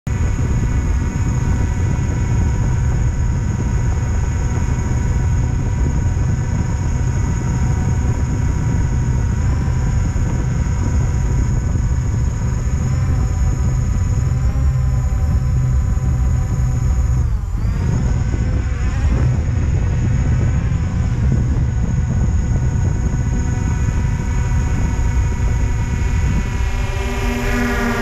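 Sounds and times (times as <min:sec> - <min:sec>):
drone propellers whining: 0:00.1 - 0:28.0
low rumble: 0:00.1 - 0:28.0.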